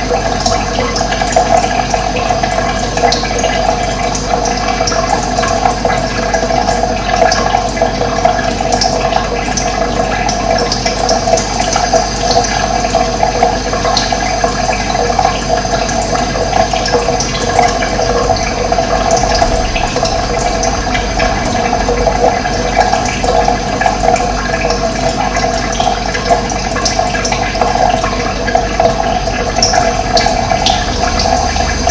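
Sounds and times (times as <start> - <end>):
water rushing: 0.0 - 31.9.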